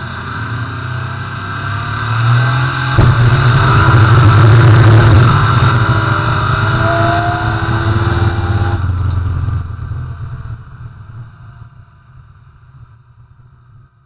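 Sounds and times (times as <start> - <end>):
drag car engine at full throttle: 0.0 - 13.8
faint rising whine: 0.3 - 13.9.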